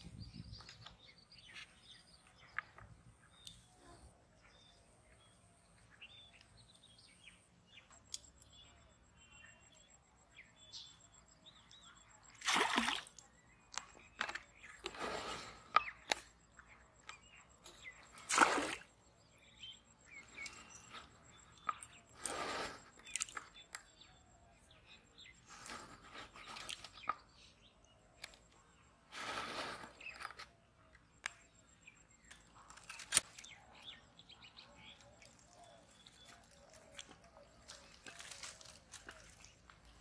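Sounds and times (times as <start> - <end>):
faint bird chirping: 0.0 - 40.0.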